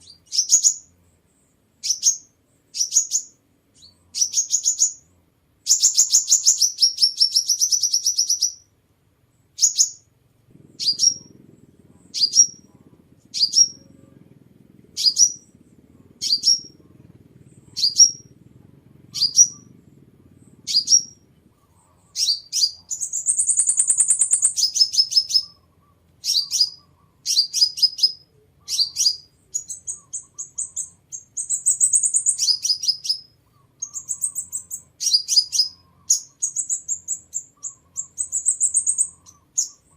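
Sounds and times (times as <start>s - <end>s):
buzzy bird trill: 0.0s - 0.9s, 1.8s - 8.7s, 9.5s - 39.9s
bird chirping: 0.0s - 39.9s.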